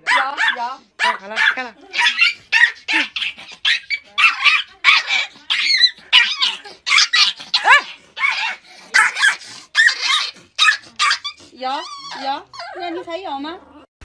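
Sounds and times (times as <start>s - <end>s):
puppy yapping: 0.0s - 13.0s.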